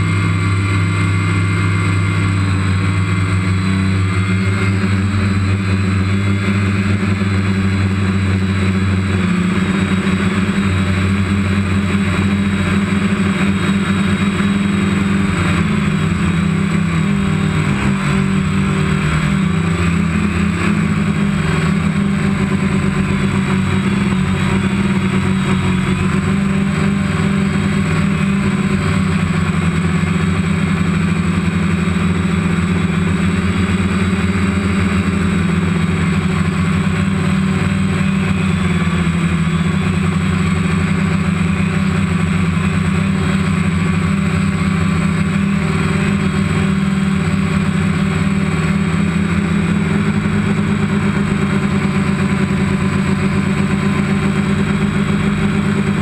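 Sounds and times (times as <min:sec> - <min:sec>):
drone propellers humming: 0:00.0 - 0:56.0.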